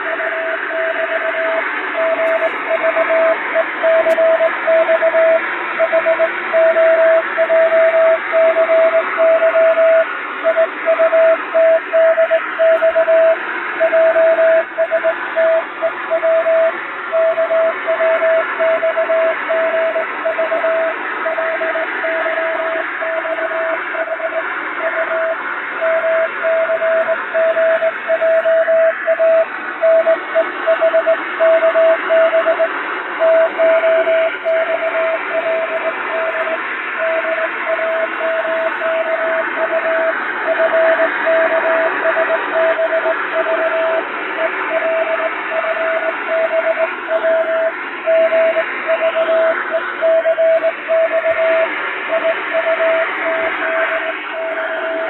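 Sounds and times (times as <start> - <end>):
morse code beeps: 0.0 - 55.0.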